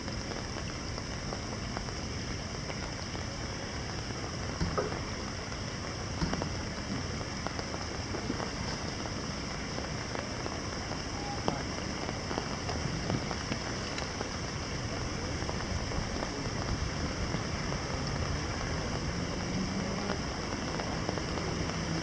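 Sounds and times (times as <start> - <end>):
distant city rumble: 0.0 - 22.0
rain falling on water: 0.0 - 22.0.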